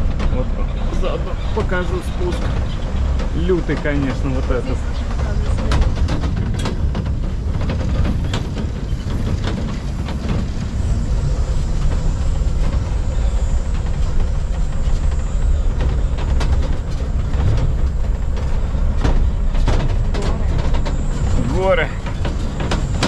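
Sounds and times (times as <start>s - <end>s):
knocks and rattles over bumps: 0.0s - 23.0s
truck rumbling: 0.0s - 23.0s.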